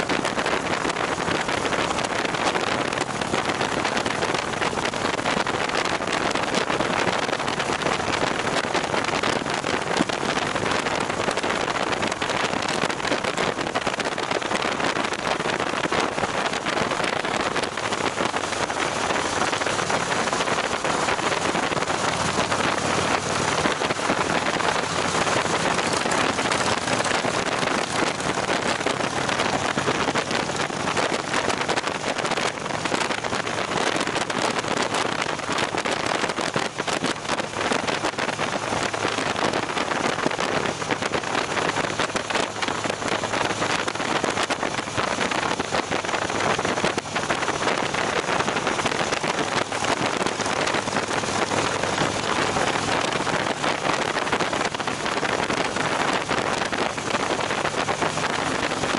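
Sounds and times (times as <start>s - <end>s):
motorcycle engine: 0.0s - 58.9s
wind rushing over microphone: 0.0s - 58.9s.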